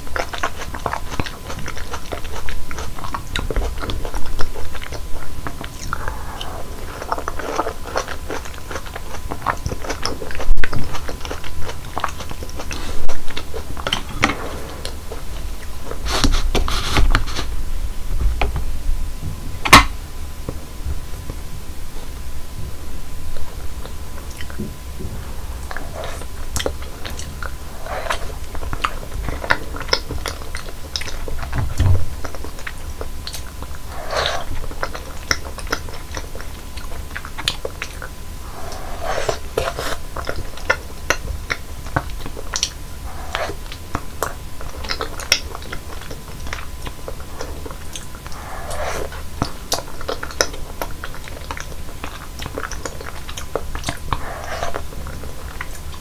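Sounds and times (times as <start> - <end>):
chewing and biting fresh fruit: 0.0 - 17.5, 23.8 - 56.0.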